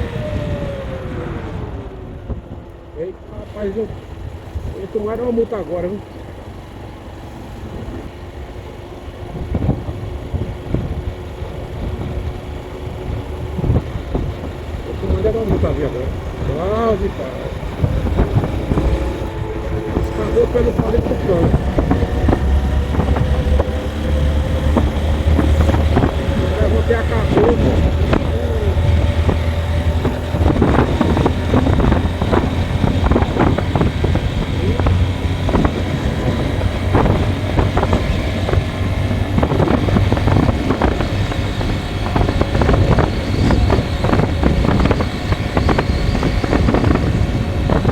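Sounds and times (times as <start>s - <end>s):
engine and road rumble: 0.0s - 47.9s
wind: 0.0s - 47.9s.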